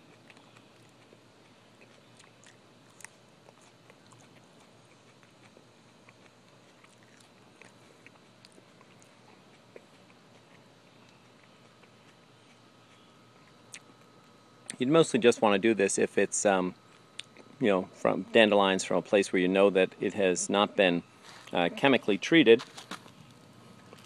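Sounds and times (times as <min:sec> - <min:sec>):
faint chewing: 0:00.0 - 0:15.2, 0:16.7 - 0:18.2, 0:21.1 - 0:24.0.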